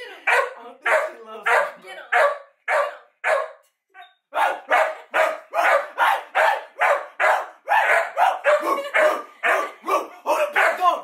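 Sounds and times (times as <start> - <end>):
dog barking: 0.2 - 3.6, 4.4 - 10.9.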